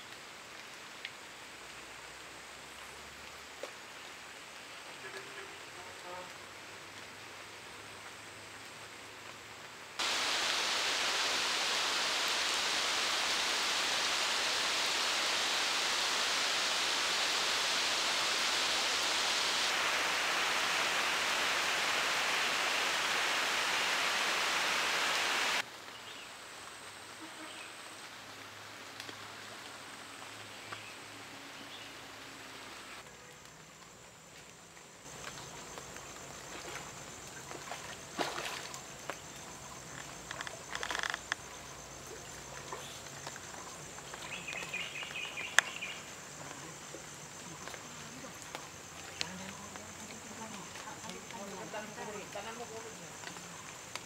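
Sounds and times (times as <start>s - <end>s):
heavy rain on water: 0.0s - 34.1s, 35.0s - 37.3s, 38.0s - 54.0s.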